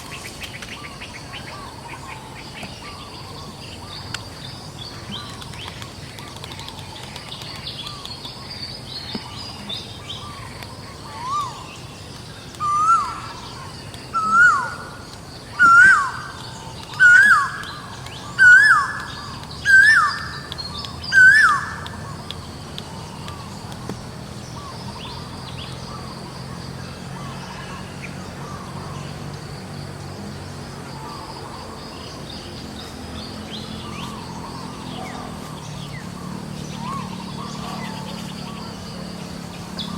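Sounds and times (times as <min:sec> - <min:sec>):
bird calling: 0:00.0 - 0:26.3, 0:30.9 - 0:39.9
outdoor background noise: 0:00.0 - 0:39.9.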